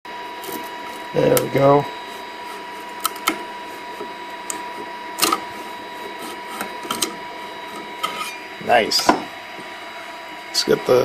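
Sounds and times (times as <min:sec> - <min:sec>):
printer whirr with faint whine: 0:00.1 - 0:11.0.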